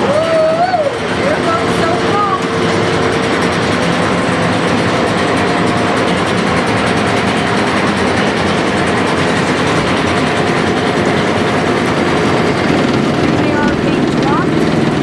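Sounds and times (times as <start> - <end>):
machinery running: 0.0 - 15.0.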